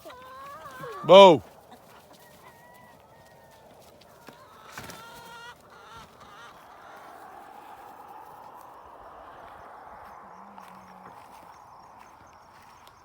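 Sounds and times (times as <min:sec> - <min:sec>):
chicken drawn-out call: 0:00.0 - 0:11.4
chickens clucking faintly: 0:00.0 - 0:13.0.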